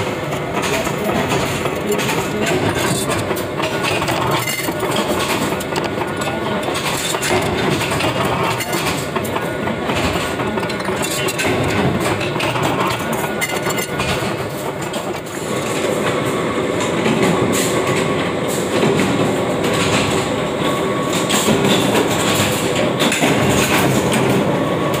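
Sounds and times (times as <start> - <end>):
workshop machinery clattering: 0.0 - 25.0.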